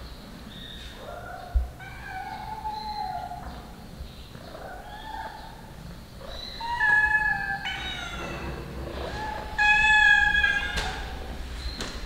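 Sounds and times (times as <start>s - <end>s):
cats meowing: 1.0s - 3.7s, 4.4s - 11.6s.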